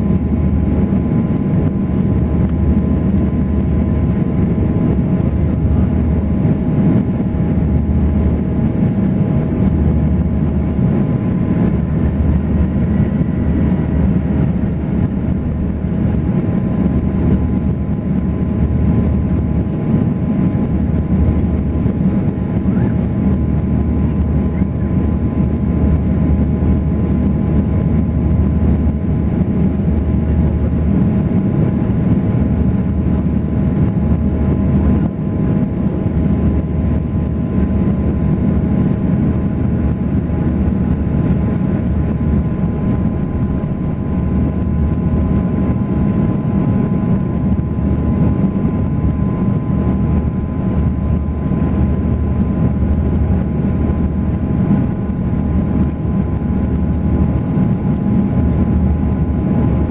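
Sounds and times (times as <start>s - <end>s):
aircraft cabin drone: 0.0s - 59.9s.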